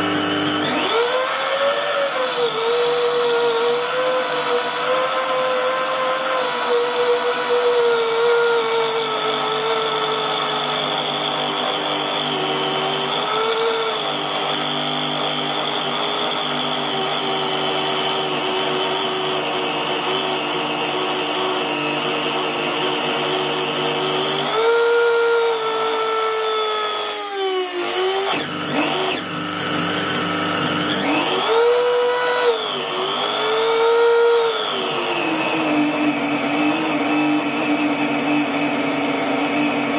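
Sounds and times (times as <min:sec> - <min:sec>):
small motor whining at high speed: 0:00.0 - 0:39.9.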